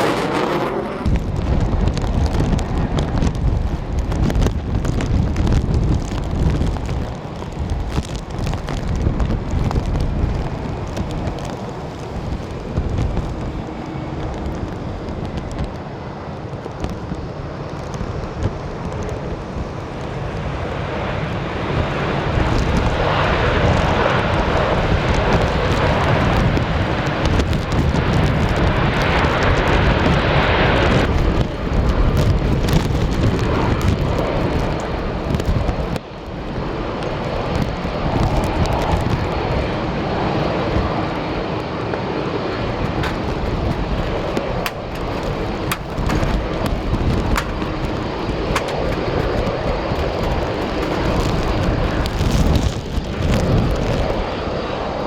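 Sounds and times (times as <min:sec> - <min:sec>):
jet engines roaring: 0:00.0 - 0:04.0, 0:08.3 - 0:55.0
wind rumbling on microphone: 0:00.0 - 0:55.0.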